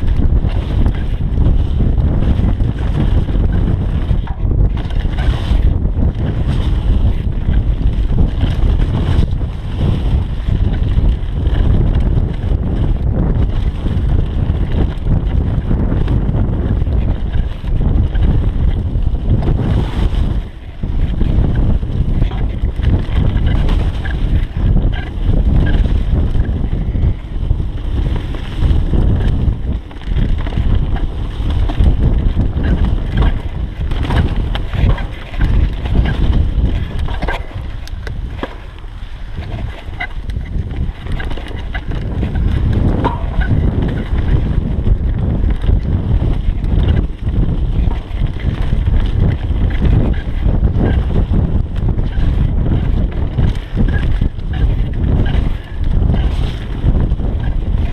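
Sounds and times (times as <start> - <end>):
mountain bike rumble and rattle: 0.0 - 57.9
wind buffeting microphone: 0.0 - 57.9.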